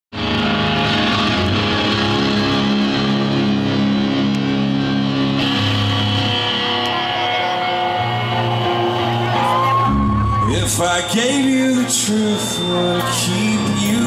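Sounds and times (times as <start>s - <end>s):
live rock band electric guitar: 0.1s - 14.0s.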